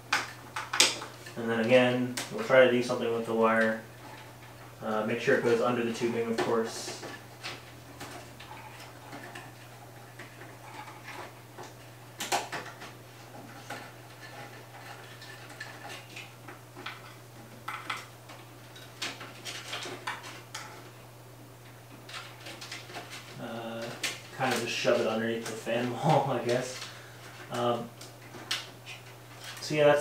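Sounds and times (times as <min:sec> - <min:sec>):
steady low hum: 0:00.0 - 0:30.0
cables and plastic parts clicking: 0:00.1 - 0:21.0, 0:21.6 - 0:30.0.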